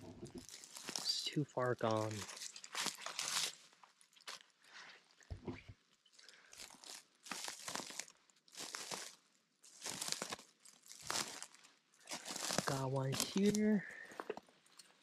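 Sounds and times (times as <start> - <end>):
footsteps on pine needles and twigs: 0.4 - 5.1, 6.3 - 14.5.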